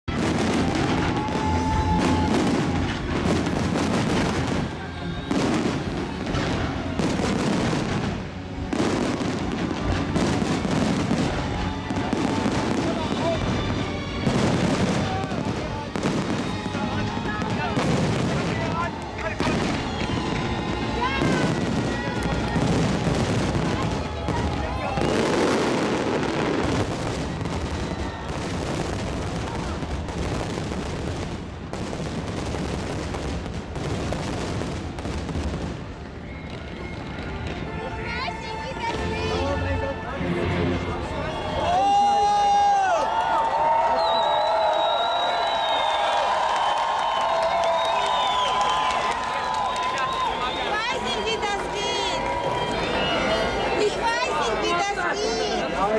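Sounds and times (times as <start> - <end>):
fireworks bursting: 0.0 - 37.8, 43.8 - 55.6.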